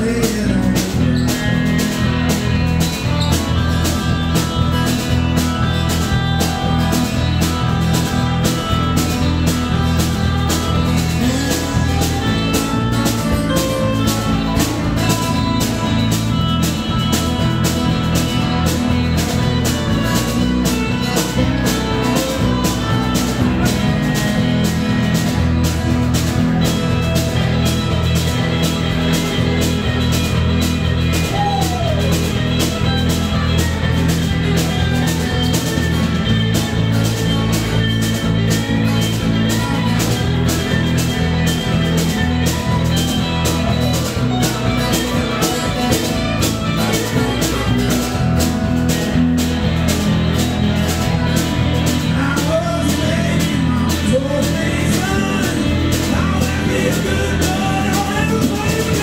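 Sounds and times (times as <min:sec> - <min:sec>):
bass: 0:00.0 - 0:59.0
electric guitar lead lines: 0:00.0 - 0:59.0
live band playing: 0:00.0 - 0:59.0
drum beat: 0:00.3 - 0:59.0.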